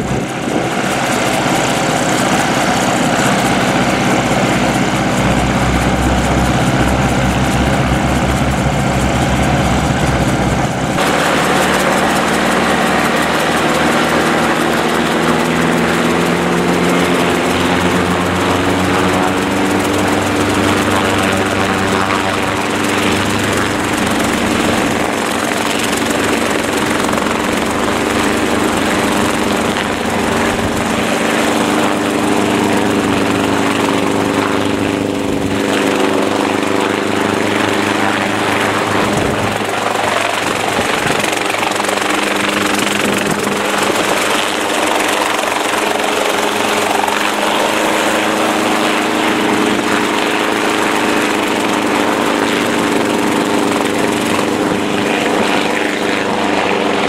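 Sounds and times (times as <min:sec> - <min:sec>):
helicopter engine and rotors: 0:00.0 - 0:57.0.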